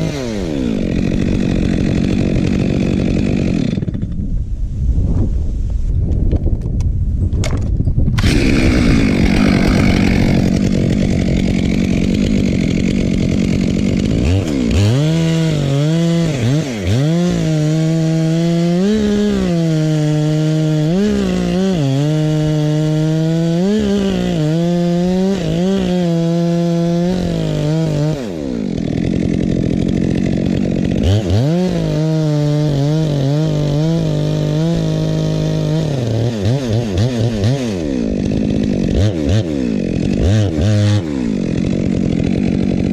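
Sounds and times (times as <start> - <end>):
chainsaw cutting wood: 0.0 - 4.3, 8.2 - 42.9.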